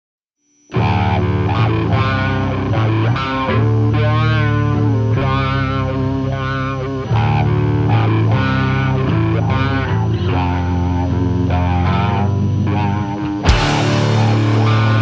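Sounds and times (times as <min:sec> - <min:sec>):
distorted electric guitar chords: 0:00.7 - 0:15.0
bass guitar: 0:00.8 - 0:15.0.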